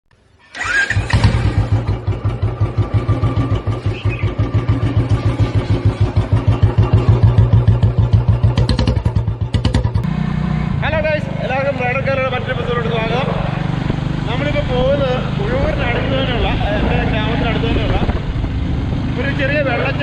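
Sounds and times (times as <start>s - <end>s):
motorcycle engine running: 0.6s - 20.0s.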